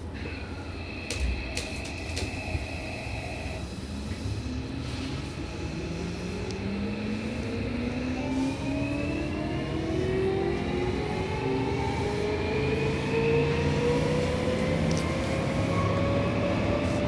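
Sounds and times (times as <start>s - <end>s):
wheels rumbling on rail: 0.0s - 17.0s
train motor whine rising in pitch: 0.2s - 17.0s.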